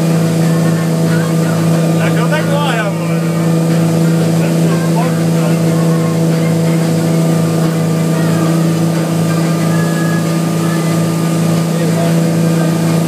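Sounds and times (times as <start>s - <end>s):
speedboat engine droning: 0.0s - 13.0s
water rushing from wake: 0.0s - 13.0s.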